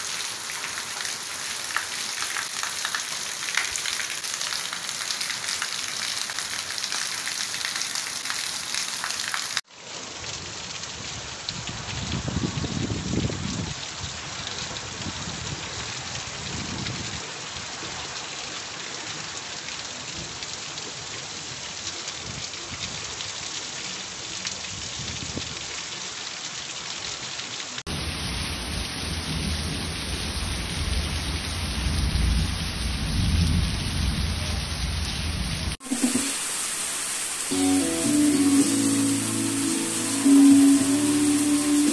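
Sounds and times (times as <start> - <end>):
heavy rain on cobblestones: 0.0 - 41.9.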